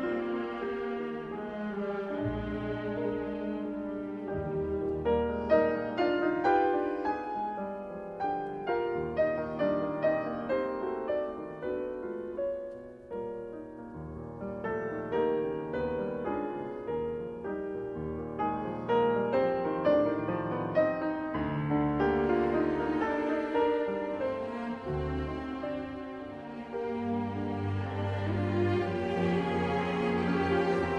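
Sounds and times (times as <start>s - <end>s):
classical piano music: 0.0s - 30.9s.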